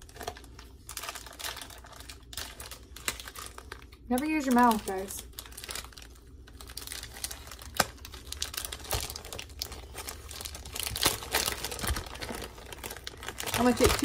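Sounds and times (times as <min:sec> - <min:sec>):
plastic packet crinkling: 0:00.0 - 0:14.0.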